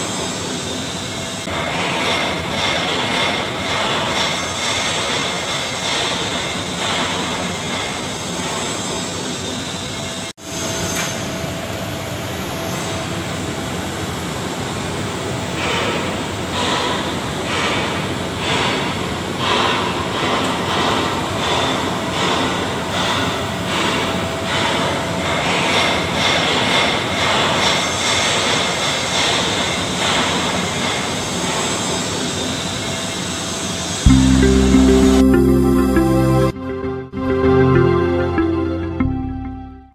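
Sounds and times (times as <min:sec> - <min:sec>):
mechanical hiss and hum: 0:00.0 - 0:36.5.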